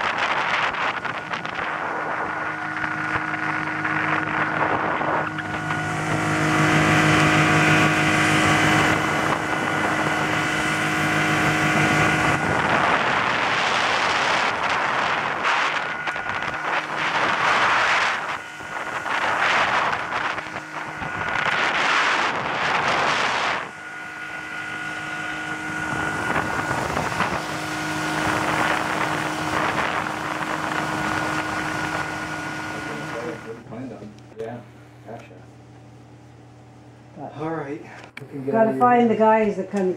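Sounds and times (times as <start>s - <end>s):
wind buffeting microphone: 0.0s - 33.6s
outboard motor running: 0.0s - 39.9s.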